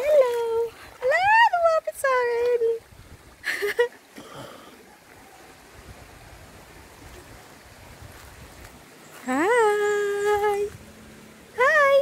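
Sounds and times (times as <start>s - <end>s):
river water flowing over stones: 0.0s - 12.0s.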